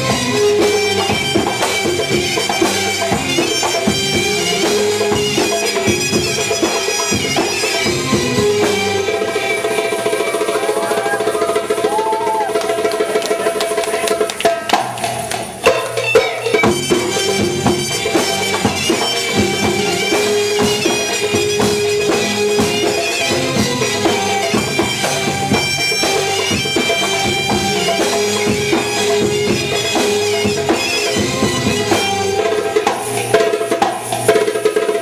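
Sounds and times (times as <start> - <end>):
live band playing belly-dance music: 0.0 - 35.0.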